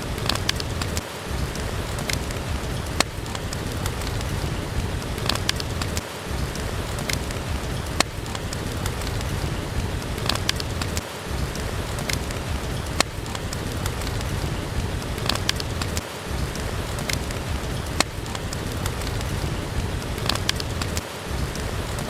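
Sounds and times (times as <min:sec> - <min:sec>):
steady rain hiss: 0:00.0 - 0:22.0
wood fire crackling: 0:00.0 - 0:22.0.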